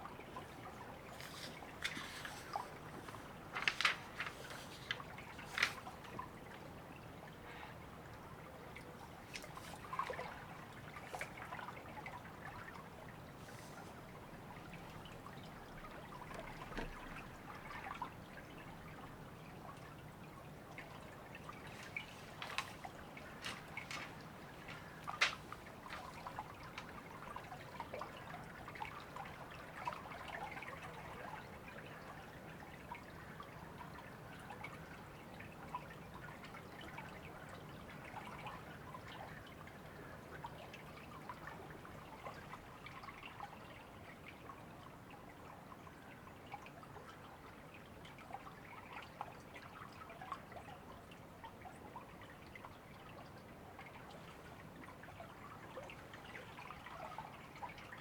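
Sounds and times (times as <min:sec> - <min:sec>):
river water trickling: 0:00.0 - 0:58.0.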